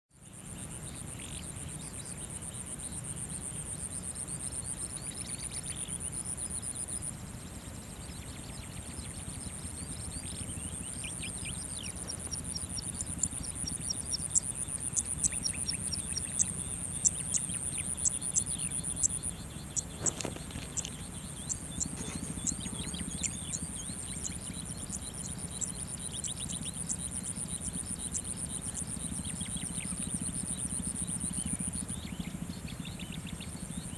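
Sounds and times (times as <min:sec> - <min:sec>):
insect trill: 0:00.2 - 0:33.9
small birds chirping: 0:00.2 - 0:33.9.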